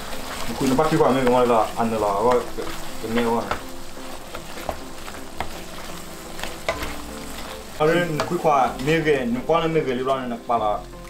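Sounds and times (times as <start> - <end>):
spatula scraping a pan: 0.0 - 10.3
meat sizzling in a pan: 0.0 - 11.0.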